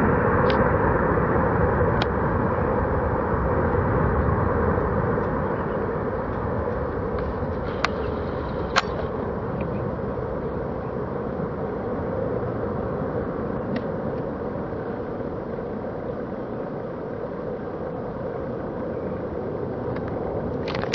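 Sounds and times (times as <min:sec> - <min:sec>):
jet engines at takeoff: 0:00.0 - 0:20.9.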